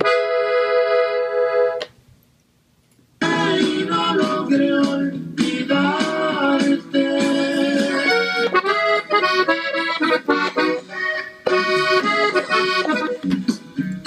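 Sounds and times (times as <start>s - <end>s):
button accordion melody: 0.0s - 1.8s, 3.2s - 14.0s.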